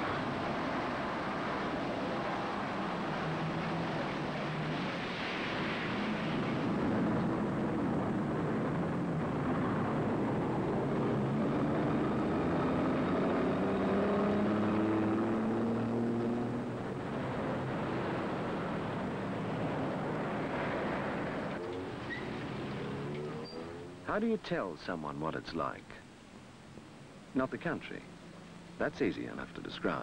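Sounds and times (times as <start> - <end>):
heavy vehicle engine: 0.0 - 24.2
vehicles driving past: 0.0 - 30.0.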